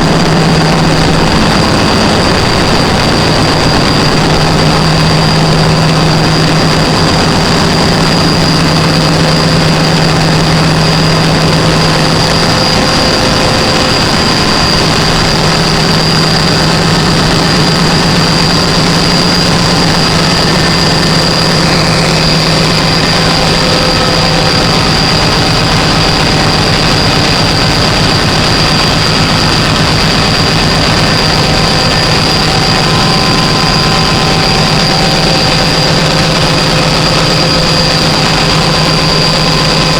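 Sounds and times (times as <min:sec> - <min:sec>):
generator running: 0:00.0 - 0:39.9.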